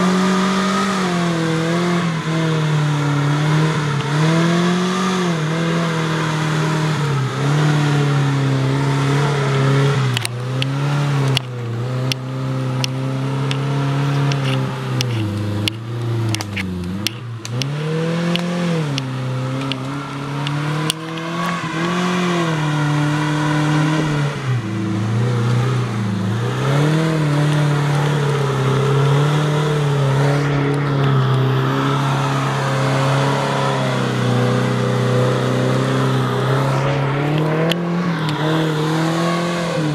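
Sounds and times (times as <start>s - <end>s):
engine revving off-road: 0.0s - 39.9s.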